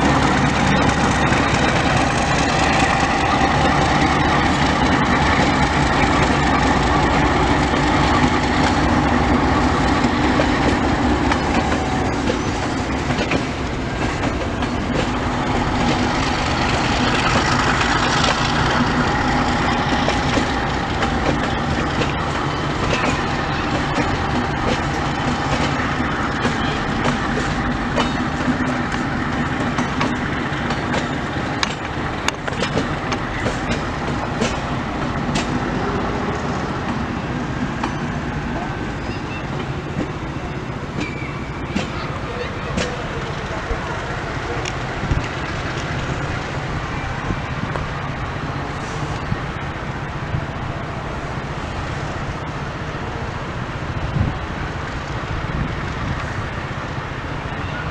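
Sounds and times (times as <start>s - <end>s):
train wheels clicking on rails: 0.0s - 57.9s.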